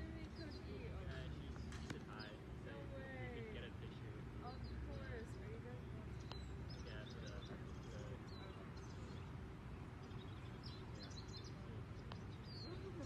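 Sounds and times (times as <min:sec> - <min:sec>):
low outdoor background noise: 0:00.0 - 0:13.0
small birds chirping: 0:00.0 - 0:13.0.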